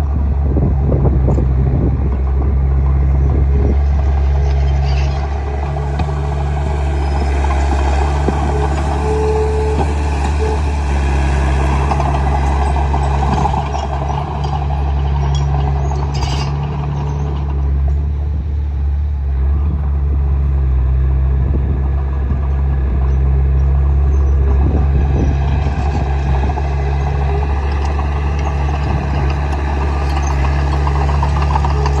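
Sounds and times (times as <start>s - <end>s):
bulldozer diesel engine droning: 0.0s - 32.0s.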